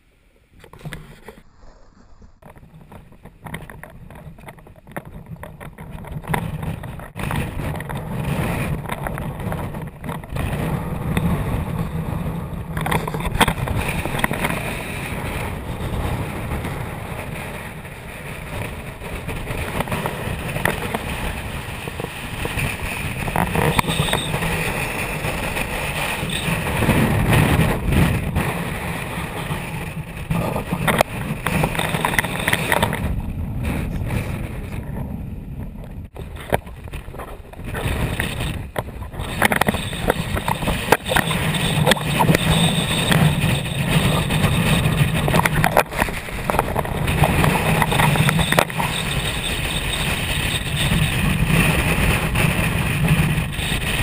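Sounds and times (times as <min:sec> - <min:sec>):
wind gusts buffeting microphone: 0:00.6 - 0:54.0.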